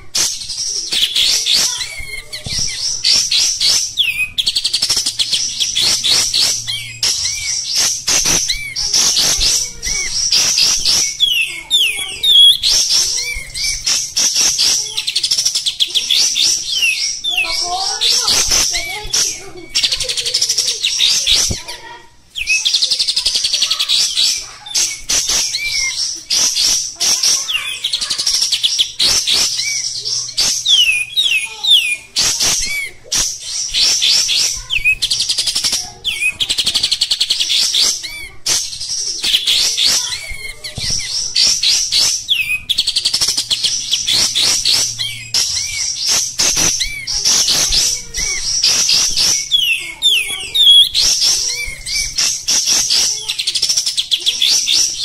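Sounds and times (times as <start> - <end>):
bulbul singing rapid chattering: 0.0 - 55.0.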